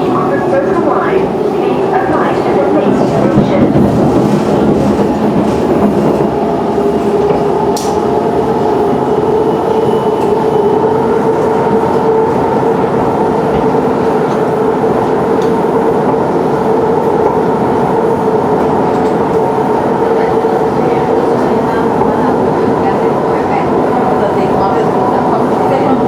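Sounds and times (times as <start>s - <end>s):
train motor hum: 0.0s - 26.0s
train wheel-on-rail rumble: 0.0s - 26.0s.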